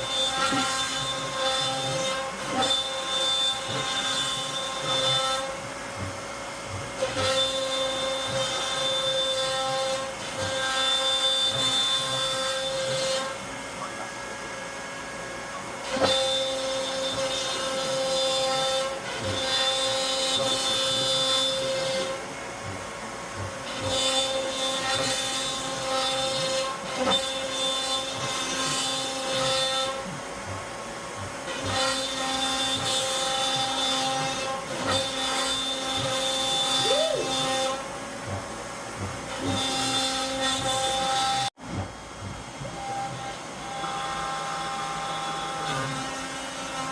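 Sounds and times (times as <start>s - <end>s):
router spindle whining: 0.0s - 46.9s.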